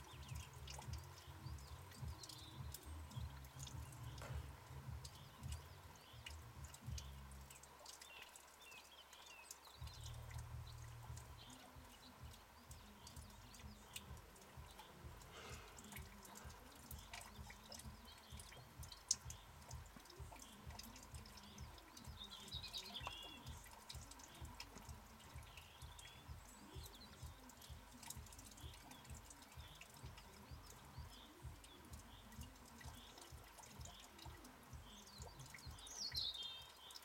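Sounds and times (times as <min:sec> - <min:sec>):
bird chirp: 0:00.0 - 0:37.0
water dripping: 0:00.0 - 0:37.0.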